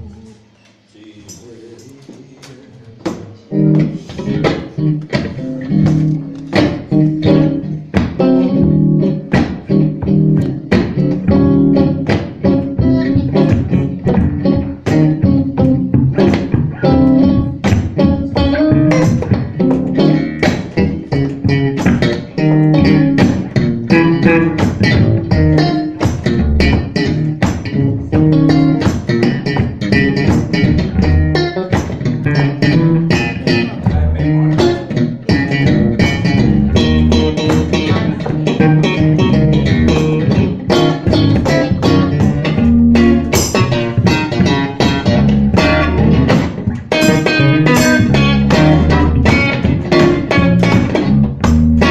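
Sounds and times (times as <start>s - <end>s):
guitar: 0.0s - 51.9s
bass guitar: 3.4s - 51.9s
live blues band playing: 3.4s - 51.9s.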